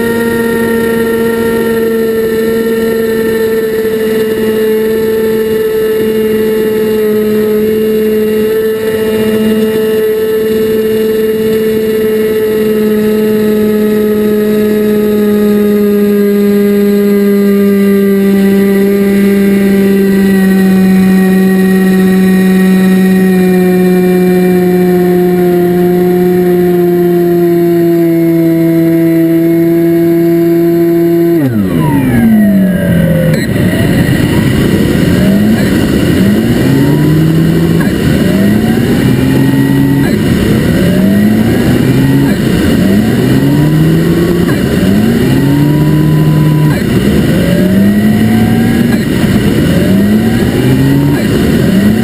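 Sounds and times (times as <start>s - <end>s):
model aircraft motor humming: 0.0s - 52.0s.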